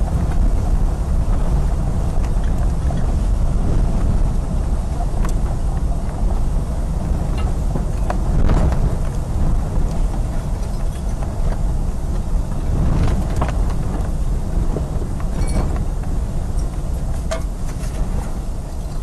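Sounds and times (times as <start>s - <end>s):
wind roaring on microphone: 0.0s - 19.0s.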